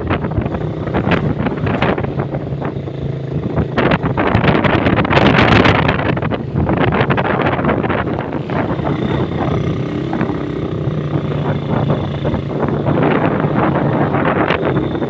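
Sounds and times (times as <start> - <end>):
motorcycle engine cruising: 0.0 - 15.0
wind buffeting microphone: 0.0 - 15.0.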